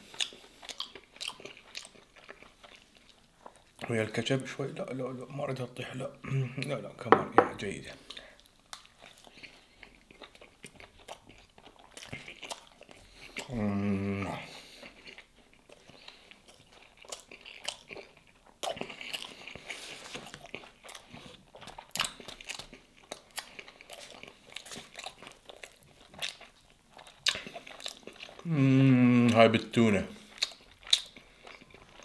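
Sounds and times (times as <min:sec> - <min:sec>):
man chewing with mouth smacks: 0:00.0 - 0:03.9, 0:08.0 - 0:29.4, 0:30.2 - 0:32.0.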